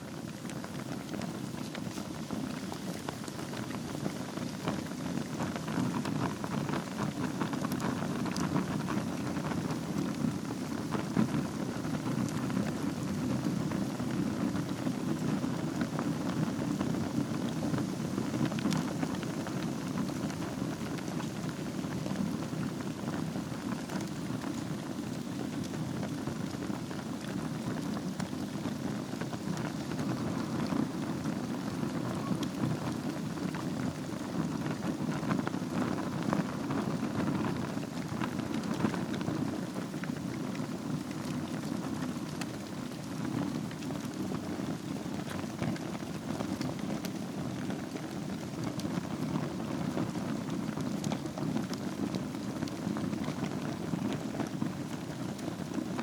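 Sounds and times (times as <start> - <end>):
fire crackling and hissing: 0.0 - 56.0.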